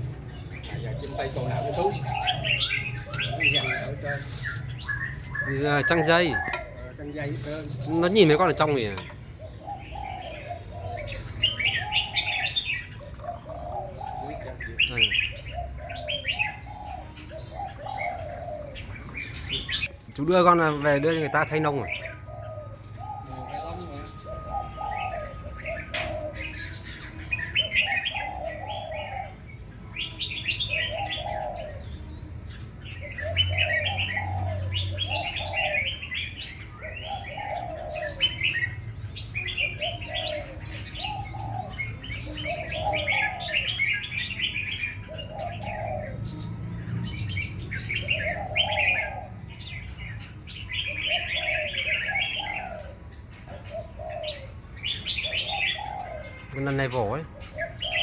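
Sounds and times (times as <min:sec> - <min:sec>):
doves cooing: 0:00.0 - 0:58.0
small birds chirping: 0:00.0 - 0:58.0.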